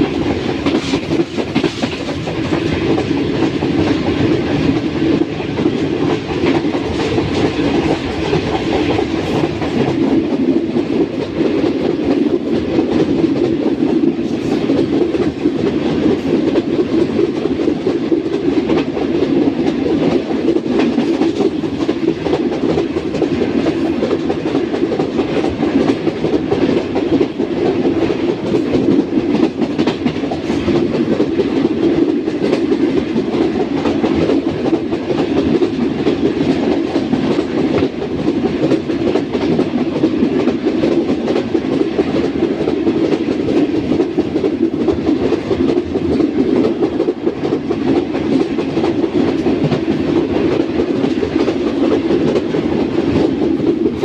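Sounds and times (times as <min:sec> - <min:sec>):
faint clicks of rails: 0:00.0 - 0:54.0
train wheels rumbling on rails: 0:00.0 - 0:54.0.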